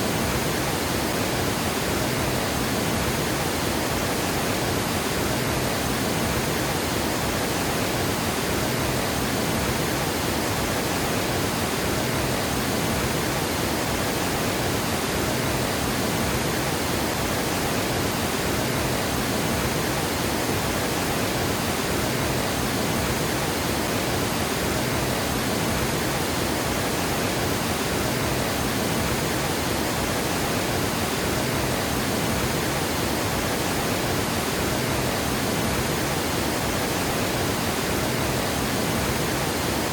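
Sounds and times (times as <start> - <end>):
water rushing over a dam: 0.0 - 39.9.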